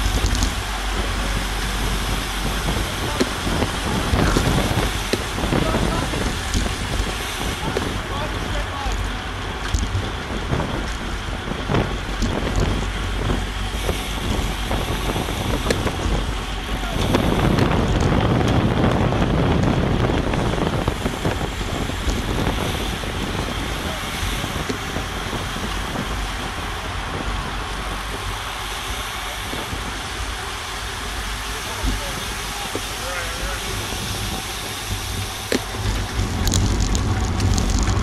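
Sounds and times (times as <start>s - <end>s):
tyre and road noise: 0.0s - 38.0s
wind rushing over microphone: 0.0s - 38.0s.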